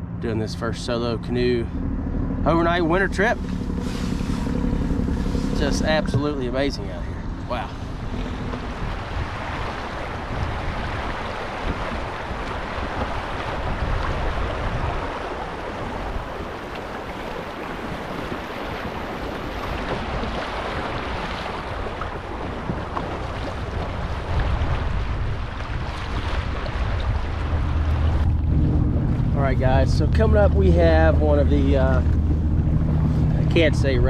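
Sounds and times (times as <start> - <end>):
wind buffeting microphone: 0.0 - 34.0
river water rushing: 2.9 - 30.8.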